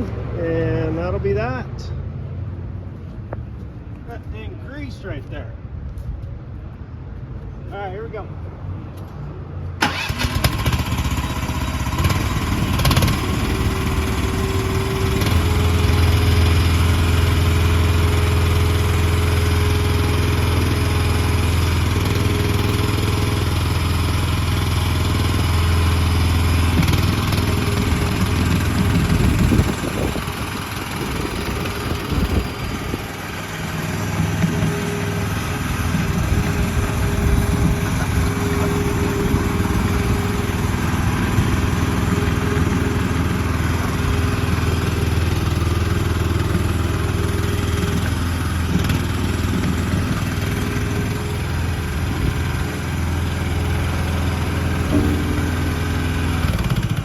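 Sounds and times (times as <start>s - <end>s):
gas engine running: 9.8s - 57.0s.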